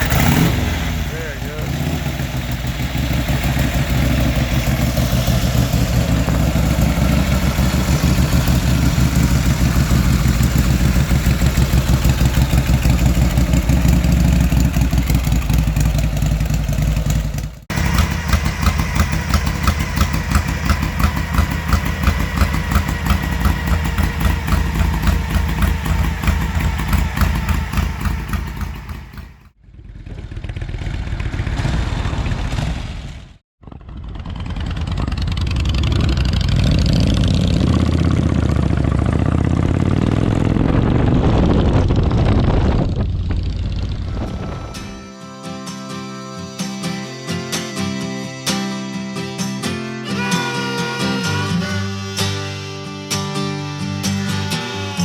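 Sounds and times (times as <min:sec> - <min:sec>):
motorcycle engine running: 0:00.0 - 0:45.5, 0:50.2 - 0:55.0.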